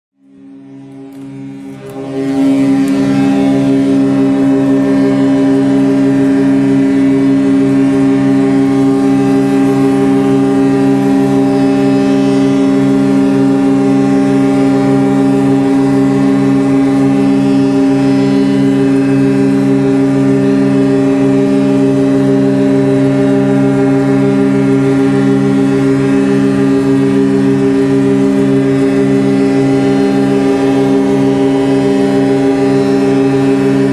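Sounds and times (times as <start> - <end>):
ship's fog horn blast: 0.2 - 33.9.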